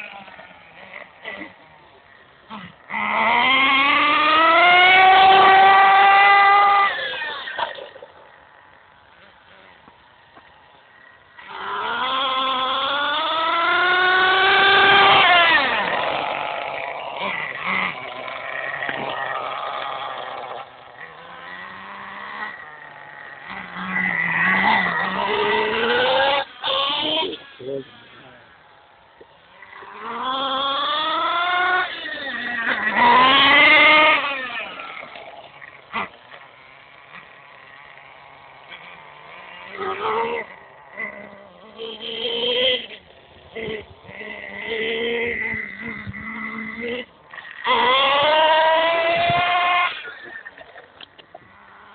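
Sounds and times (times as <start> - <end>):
nitro model engine revving: 0.0 - 51.9.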